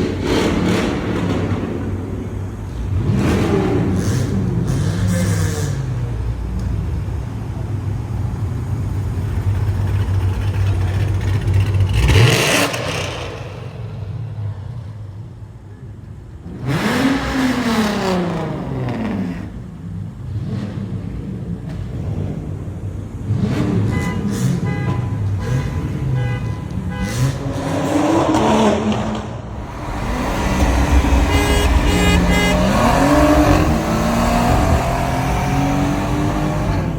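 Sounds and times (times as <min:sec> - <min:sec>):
car engine droning and revving: 0:00.0 - 0:07.6, 0:08.3 - 0:15.4, 0:16.4 - 0:24.7, 0:27.0 - 0:36.9.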